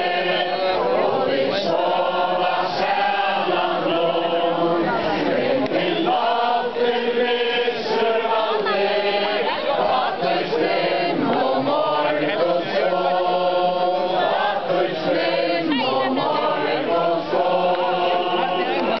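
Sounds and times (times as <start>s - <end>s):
crowd singing together: 0.0s - 19.0s.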